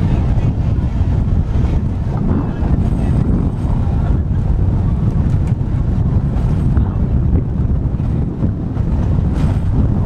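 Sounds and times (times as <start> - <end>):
electric tram rumbling on track: 0.0 - 10.0
gusty wind on microphone: 0.0 - 10.0.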